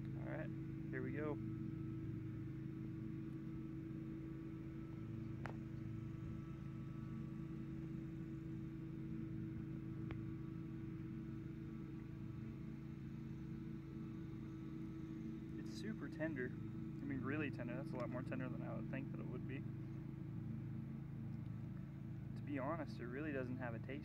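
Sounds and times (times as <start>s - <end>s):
lawnmower engines humming: 0.0s - 24.0s.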